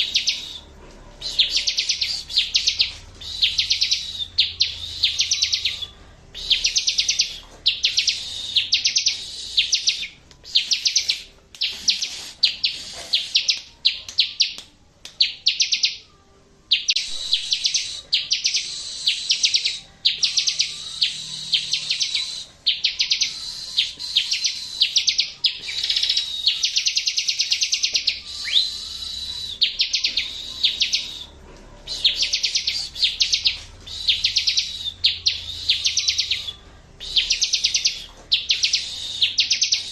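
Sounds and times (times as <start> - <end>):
bird song in fast high trills: 0.0 - 14.6, 16.7 - 39.9.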